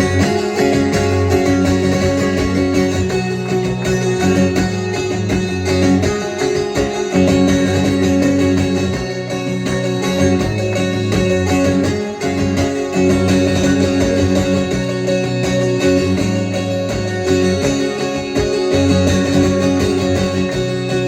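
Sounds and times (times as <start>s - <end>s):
guitar playing sustained chords: 0.0s - 21.0s.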